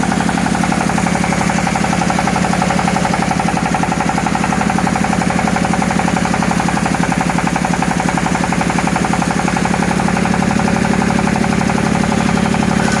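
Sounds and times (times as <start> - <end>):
dowel machine motor humming: 0.0 - 13.0.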